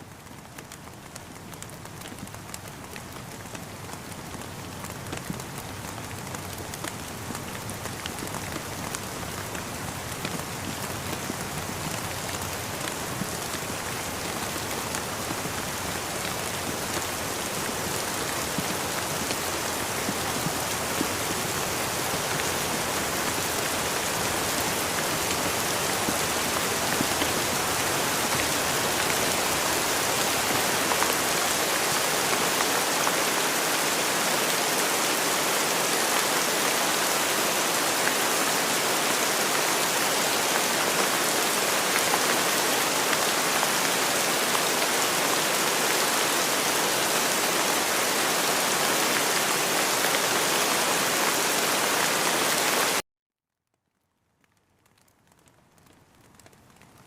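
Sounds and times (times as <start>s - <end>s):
rain drops tapping: 0.1s - 53.0s, 53.9s - 57.0s.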